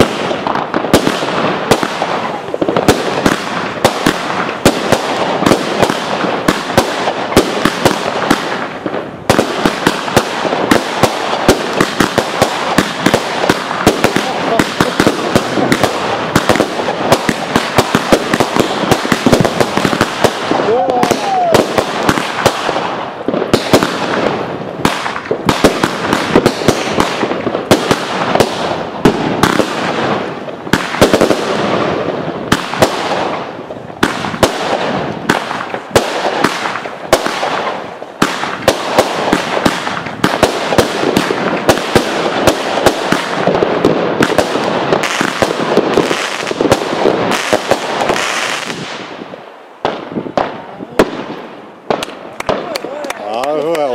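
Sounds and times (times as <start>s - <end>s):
fireworks bangs: 0.0s - 53.9s
fireworks crackling: 0.0s - 53.9s.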